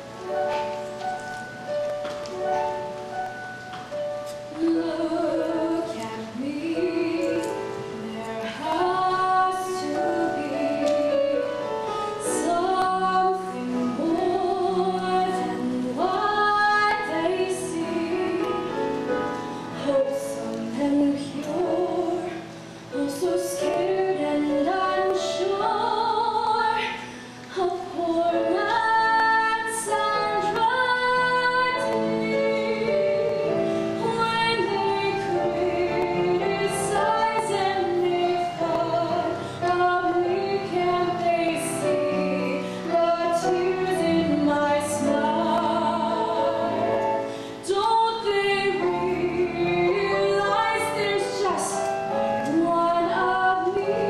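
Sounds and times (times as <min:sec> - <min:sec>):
sustained musical accompaniment: 0:00.0 - 0:54.0
woman singing: 0:04.4 - 0:54.0.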